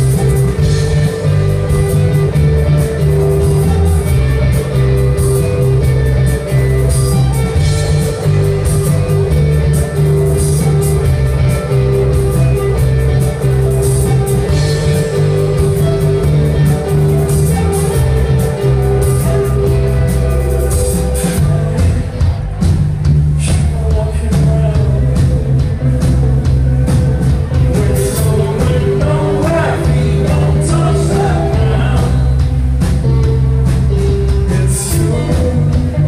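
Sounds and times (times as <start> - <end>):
bass guitar: 0.0 - 36.0
drum kit with cymbal strokes: 0.0 - 36.0
electric guitars: 0.0 - 36.0.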